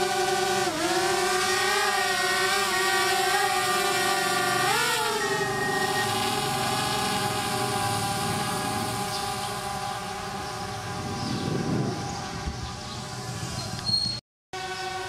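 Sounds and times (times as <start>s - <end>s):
drone rotors buzzing: 0.0s - 15.0s.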